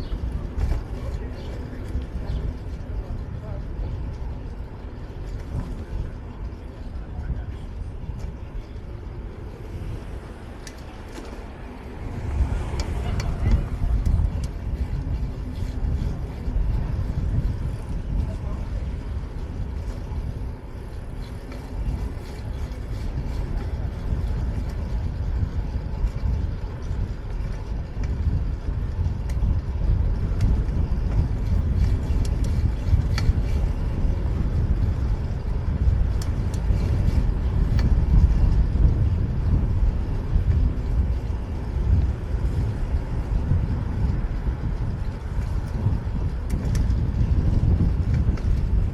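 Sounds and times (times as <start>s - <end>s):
street traffic noise: 0.0s - 48.9s
wind on microphone: 0.0s - 48.9s.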